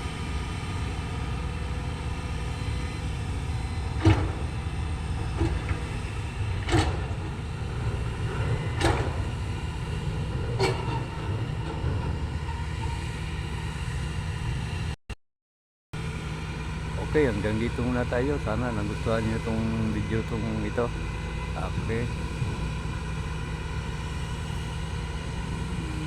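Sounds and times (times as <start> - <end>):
heavy machinery engine running: 0.0 - 15.0, 16.0 - 26.0.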